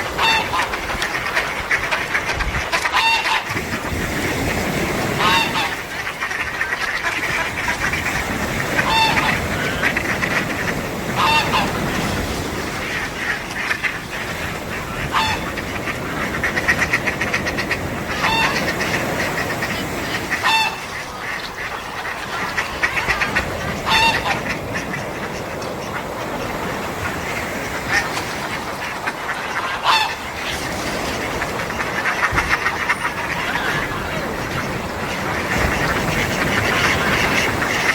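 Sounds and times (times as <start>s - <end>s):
gulls honking cries: 0.0s - 37.9s
sea waves washing on beach: 0.0s - 37.9s.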